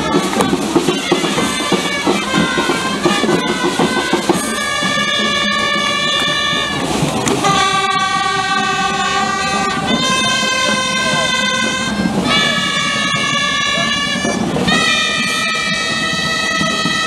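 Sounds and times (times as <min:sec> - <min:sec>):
shawms playing slow tune: 0:00.0 - 0:17.0.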